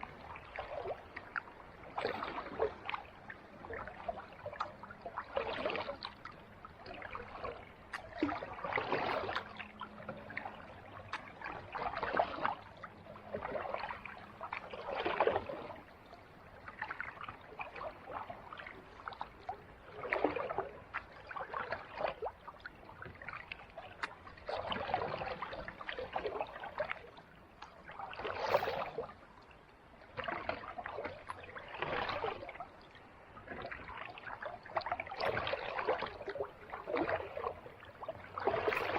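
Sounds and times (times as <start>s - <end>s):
paddle splashing in water: 0.0s - 38.9s.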